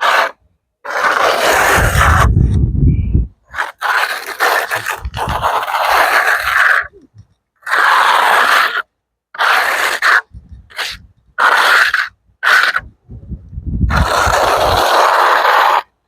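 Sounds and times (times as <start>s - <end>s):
trowel scraping asphalt: 0.0s - 2.7s, 3.4s - 12.9s, 13.9s - 16.0s.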